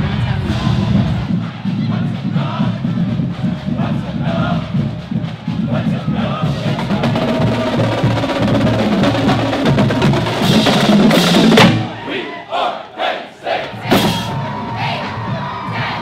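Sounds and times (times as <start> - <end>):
crowd shouting and cheering: 0.0 - 4.9, 5.6 - 16.0
marching drumline: 0.0 - 16.0.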